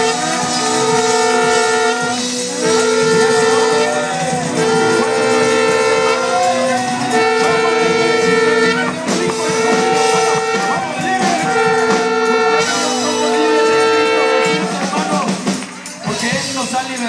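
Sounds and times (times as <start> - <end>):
held melody notes: 0.0 - 15.8
conga drums: 0.0 - 17.0
tambourines shaken and struck: 0.0 - 17.0.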